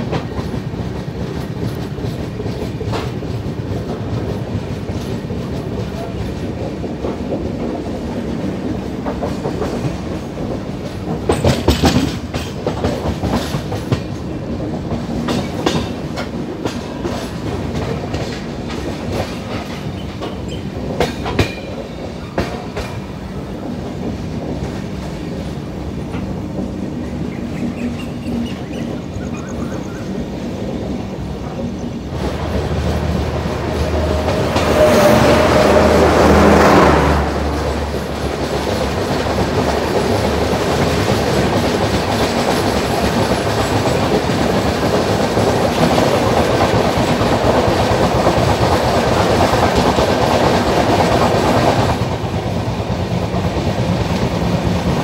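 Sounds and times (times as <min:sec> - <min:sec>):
loud train rush: 0:00.0 - 0:55.0
train rumbling at speed: 0:00.0 - 0:55.0.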